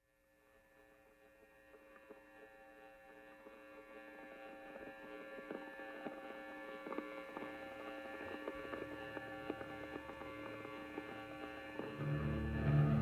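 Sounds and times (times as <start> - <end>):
faint ticks: 0.8 - 12.1
hum of held tones: 2.1 - 13.0.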